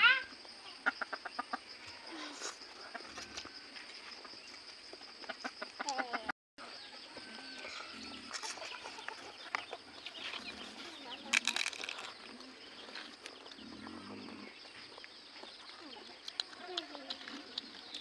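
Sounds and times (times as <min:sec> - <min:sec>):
chickens clucking: 0:00.4 - 0:16.5.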